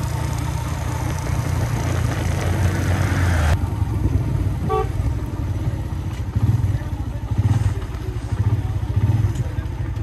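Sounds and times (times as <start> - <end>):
motorcycle engine running: 0.0 - 10.0
road noise: 0.0 - 10.0.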